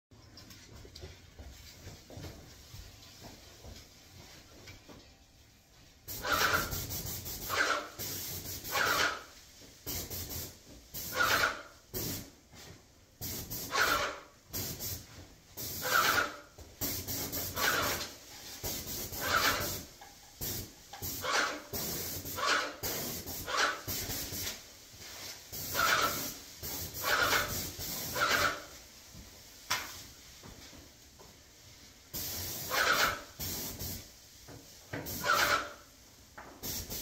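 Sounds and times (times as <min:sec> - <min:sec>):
paint sprayer pumping and hissing: 0:06.0 - 0:31.3, 0:32.0 - 0:37.0.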